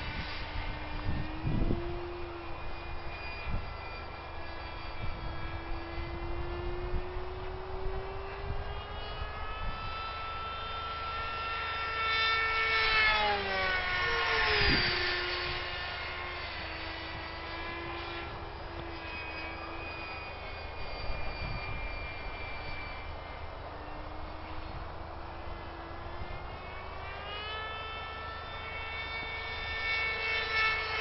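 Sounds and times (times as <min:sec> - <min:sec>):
model planes whining overhead: 0:00.0 - 0:31.0.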